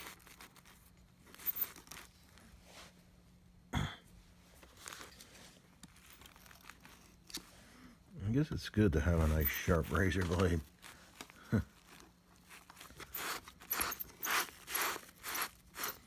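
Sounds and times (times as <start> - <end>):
rustles and scrapes on plastic: 0.0 - 3.2, 4.4 - 7.7, 8.7 - 16.0.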